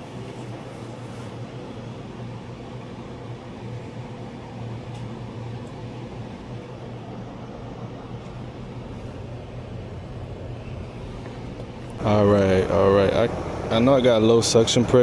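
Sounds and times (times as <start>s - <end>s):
compressor low hum: 0.0s - 15.0s
condenser fan rushing: 0.0s - 15.0s.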